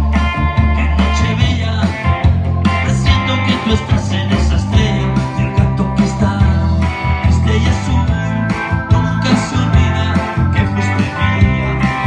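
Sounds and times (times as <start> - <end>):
electric guitar playing: 0.0 - 12.0
steady bass line: 0.0 - 12.0.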